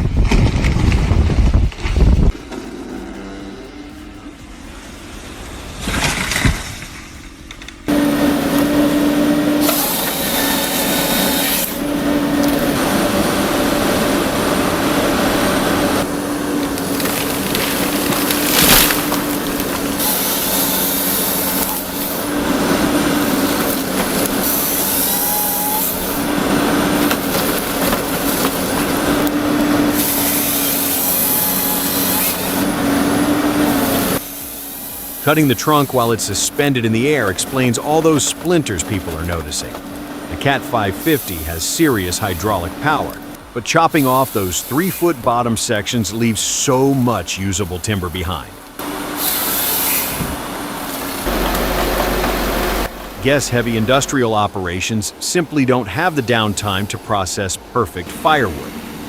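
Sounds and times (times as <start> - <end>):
power saw cutting wood: 2.1 - 55.0, 55.6 - 59.0.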